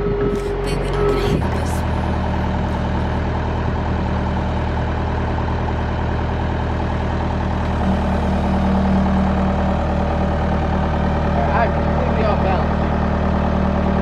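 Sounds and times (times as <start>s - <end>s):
large machine engine running: 0.0s - 14.0s
stronger hum: 0.0s - 14.0s.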